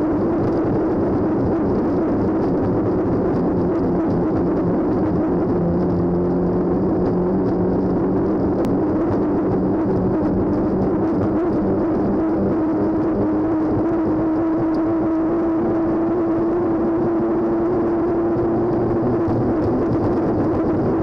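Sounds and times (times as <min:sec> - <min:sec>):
boat engine running: 0:00.0 - 0:21.0
rush of wind and water: 0:00.0 - 0:21.0.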